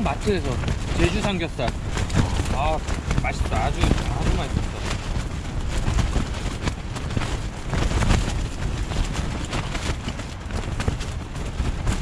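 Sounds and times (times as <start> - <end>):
faint rustles and clicks: 0.0 - 12.0
wind buffeting microphone: 0.0 - 12.0.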